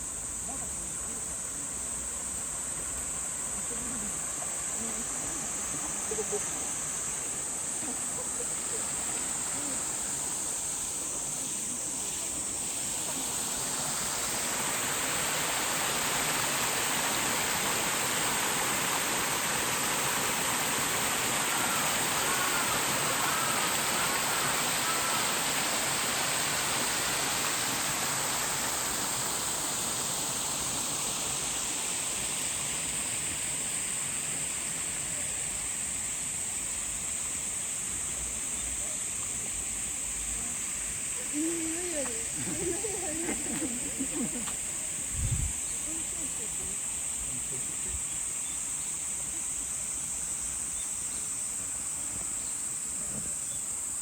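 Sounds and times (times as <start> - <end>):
high-pitched insect drone: 0.0 - 54.0
rushing water of a stream: 0.0 - 54.0.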